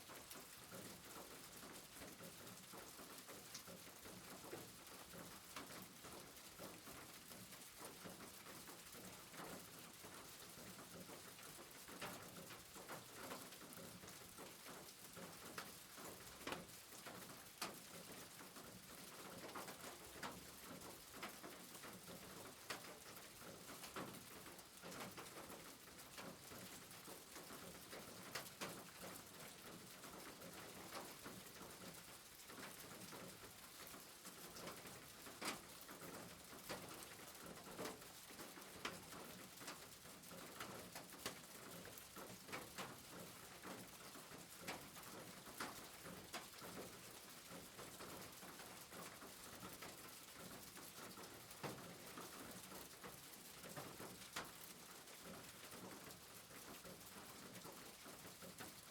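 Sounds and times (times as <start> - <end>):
faint steady rain: 0.0 - 58.9.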